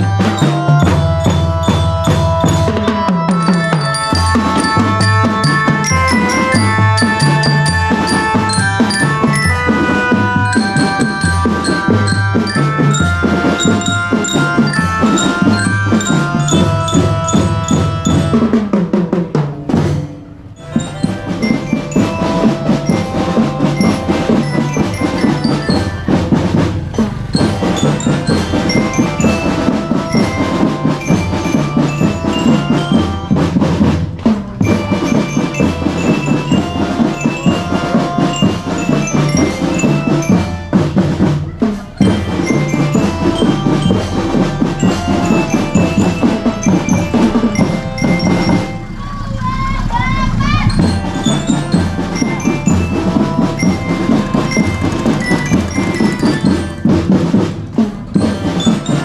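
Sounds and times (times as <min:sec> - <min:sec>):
glockenspiel melody: 0:00.0 - 0:18.9, 0:19.7 - 0:59.0
snare and bass drums beat: 0:00.0 - 0:48.9, 0:50.0 - 0:59.0.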